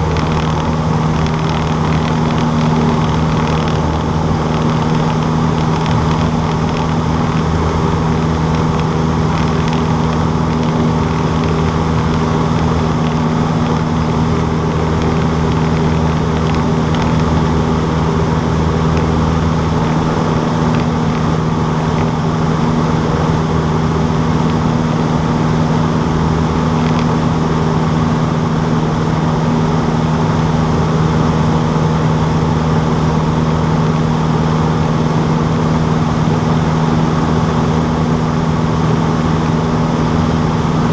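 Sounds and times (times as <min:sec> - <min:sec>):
light aircraft engine droning: 0:00.0 - 0:40.9.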